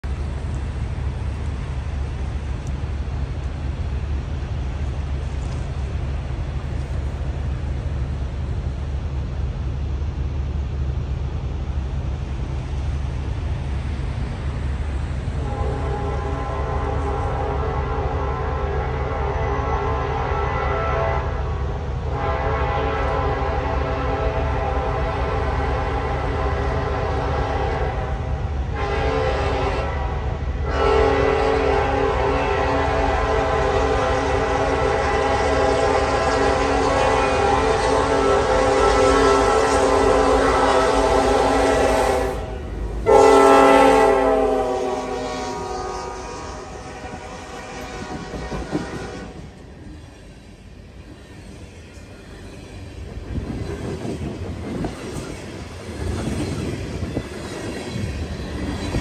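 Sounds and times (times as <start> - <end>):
distant diesel locomotive engine rumble: 0.0 - 59.0.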